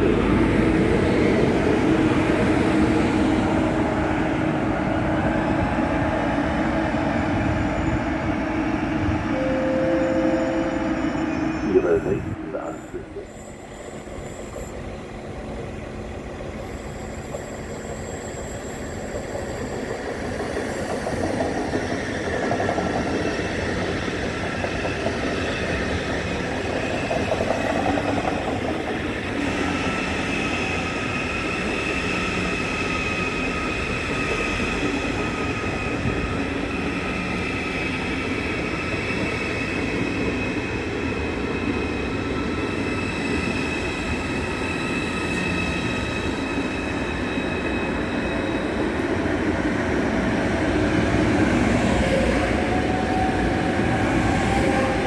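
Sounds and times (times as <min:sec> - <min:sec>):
high-speed train pulling in: 0:00.0 - 0:55.0.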